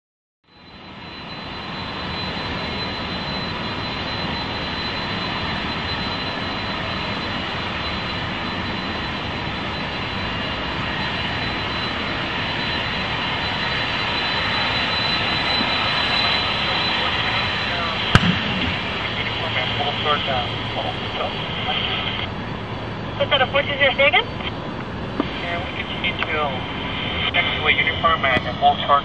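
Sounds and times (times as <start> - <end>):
thin high whine: 0.6 - 29.0
jet engines rushing: 0.7 - 29.0.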